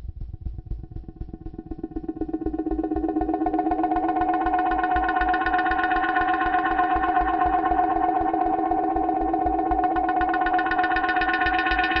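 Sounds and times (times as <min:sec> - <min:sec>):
pulsing electronic music with low beat: 0:00.0 - 0:12.0.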